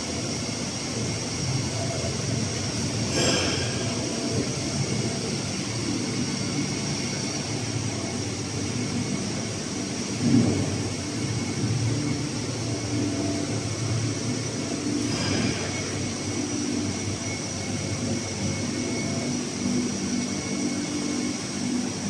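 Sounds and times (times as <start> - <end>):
cooling fans: 0.0 - 22.0
high whine: 0.0 - 22.0
industrial machinery hum: 0.0 - 22.0.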